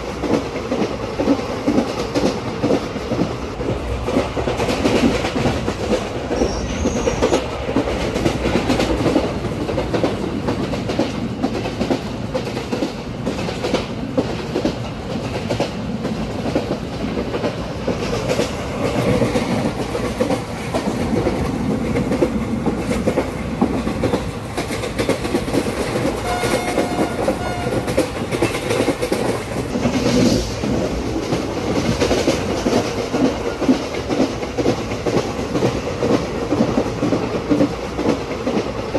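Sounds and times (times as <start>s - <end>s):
train wheels rumbling on rails: 0.0s - 38.9s
clickety-clack rattles and knocks: 0.1s - 38.9s.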